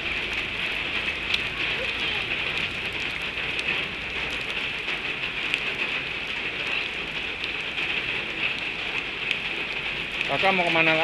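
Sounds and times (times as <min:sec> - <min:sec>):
steady rain pattering: 0:00.0 - 0:11.0.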